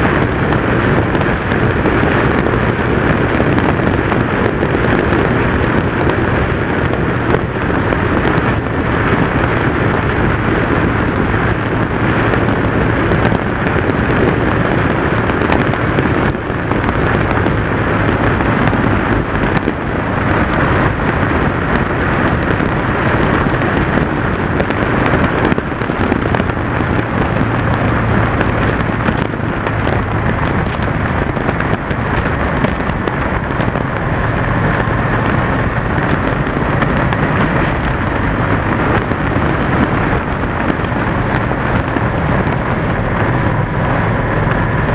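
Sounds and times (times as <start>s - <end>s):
motorcycle engine droning: 0.0s - 44.9s
wind buffeting microphone: 0.0s - 44.9s.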